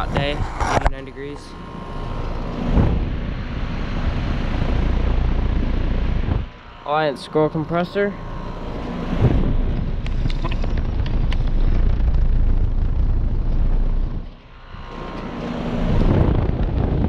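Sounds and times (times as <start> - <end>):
air conditioner fan rushing: 0.0 - 17.0
compressor hum: 0.0 - 17.0.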